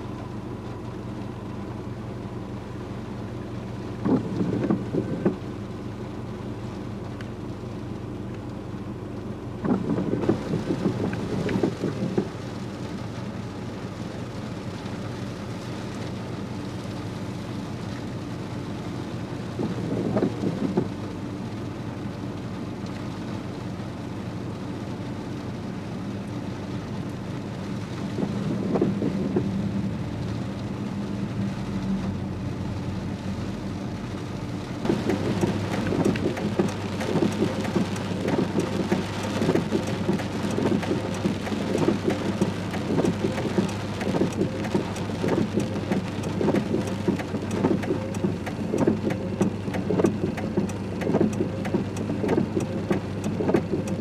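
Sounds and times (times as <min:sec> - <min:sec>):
heavy rain falling: 0:00.0 - 0:54.0
raindrops pattering on a surface: 0:00.0 - 0:54.0.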